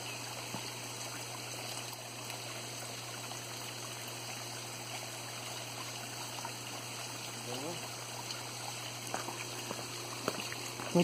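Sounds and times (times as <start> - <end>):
water running down waterfall: 0.0 - 11.0.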